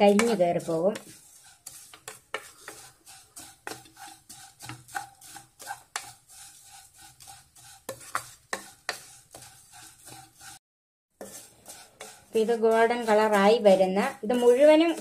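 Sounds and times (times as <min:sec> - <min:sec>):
food frying: 0:00.0 - 0:10.6, 0:11.2 - 0:15.0
wooden spatula scraping pan: 0:00.0 - 0:10.6, 0:11.2 - 0:15.0.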